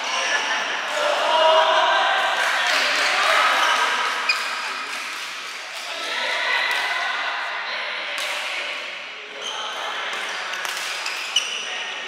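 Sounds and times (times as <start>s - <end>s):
indistinct voices in a hall: 0.0s - 12.0s.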